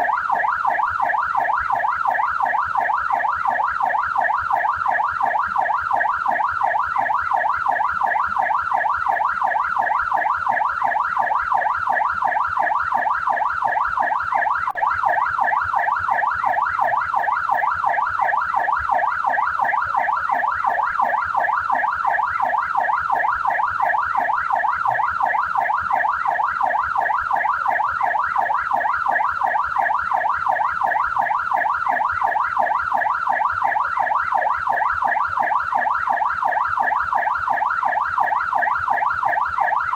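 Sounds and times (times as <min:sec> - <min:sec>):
police siren fast warble: 0:00.0 - 0:39.9.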